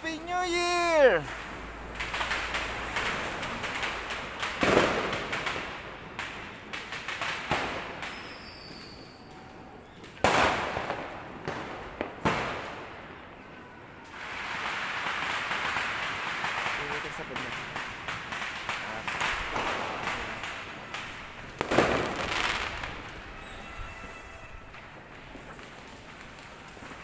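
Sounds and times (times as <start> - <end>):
firecracker bangs: 0.0 - 27.0
fireworks popping and crackling: 0.0 - 27.0.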